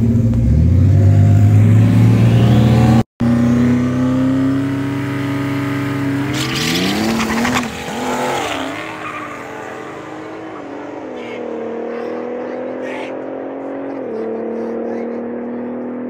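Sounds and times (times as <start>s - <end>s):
car engines revving and pulling away: 0.0s - 16.0s.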